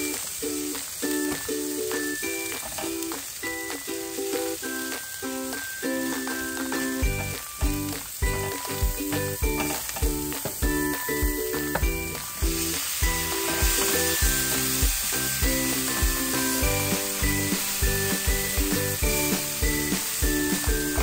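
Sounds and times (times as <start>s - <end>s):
mushrooms sizzling in a pan: 0.0s - 21.0s
music with a steady beat: 3.7s - 21.0s.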